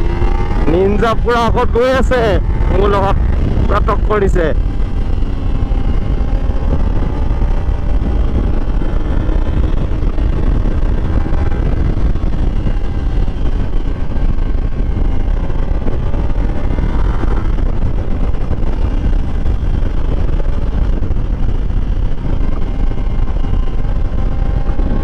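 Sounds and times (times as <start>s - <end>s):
heavy wind rush: 0.0s - 25.0s
motorcycle engine cruising: 0.0s - 25.0s.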